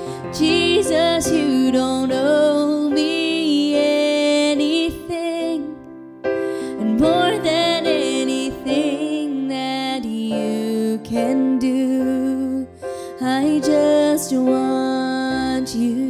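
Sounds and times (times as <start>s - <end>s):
woman singing: 0.0s - 5.9s, 6.6s - 16.0s
digital piano: 0.0s - 16.0s.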